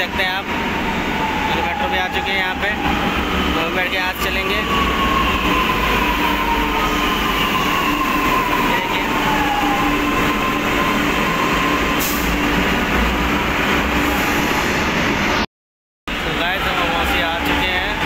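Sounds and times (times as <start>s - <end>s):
metro train braking with whine: 0.0s - 15.4s.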